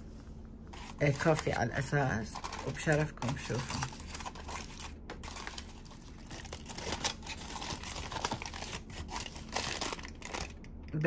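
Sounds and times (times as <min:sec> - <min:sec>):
aluminium foil crinkling: 0:00.7 - 0:11.0.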